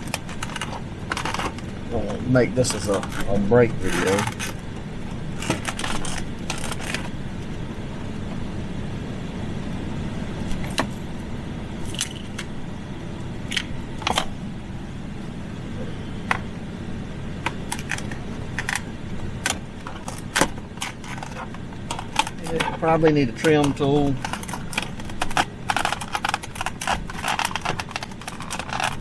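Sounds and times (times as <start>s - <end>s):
air-conditioning blower rushing: 0.0s - 29.0s.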